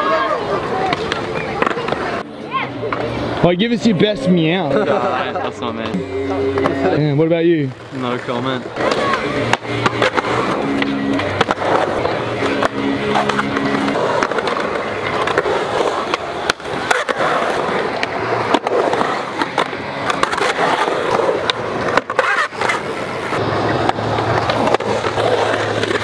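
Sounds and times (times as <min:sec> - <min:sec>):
skateboard trucks grinding metal: 0:00.0 - 0:26.0
skateboard wheels rolling on concrete: 0:00.0 - 0:26.0.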